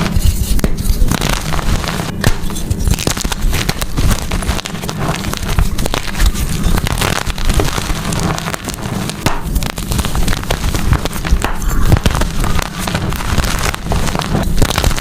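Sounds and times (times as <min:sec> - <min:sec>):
chalk being crushed: 0:00.0 - 0:15.0.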